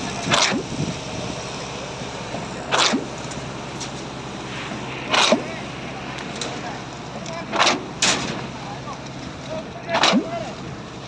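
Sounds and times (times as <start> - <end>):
concrete pump humming: 0.0 - 11.0
sharp bursts of pump noise: 0.0 - 11.0.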